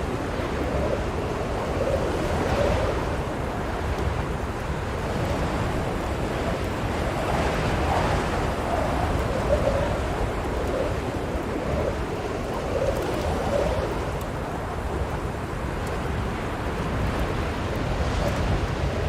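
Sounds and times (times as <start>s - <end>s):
blizzard wind blowing: 0.0s - 19.0s
faint wavering wind howl: 0.0s - 19.0s.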